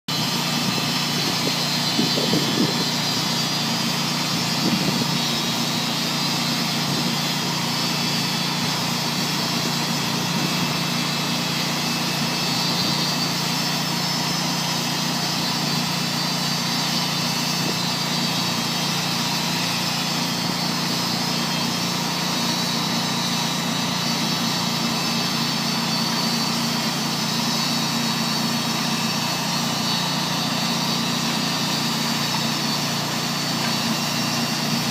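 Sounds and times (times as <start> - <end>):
bandmill engine running: 0.1 - 34.9.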